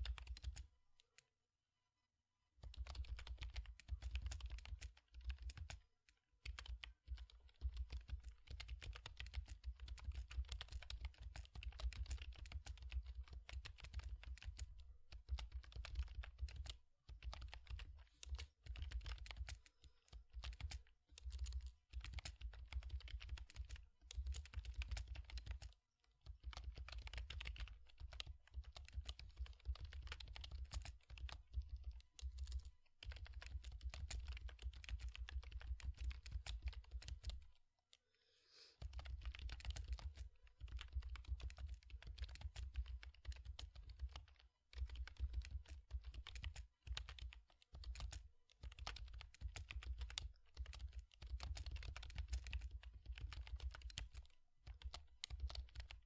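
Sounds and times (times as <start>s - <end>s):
typing on computer keyboard: 0.0s - 0.7s, 2.6s - 5.8s, 6.4s - 37.6s, 38.8s - 56.0s.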